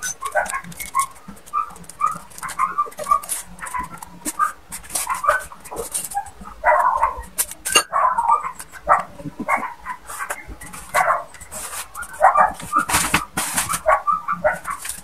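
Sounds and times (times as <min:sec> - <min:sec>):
dog yipping and whimpering: 0:00.0 - 0:12.9, 0:13.6 - 0:14.9.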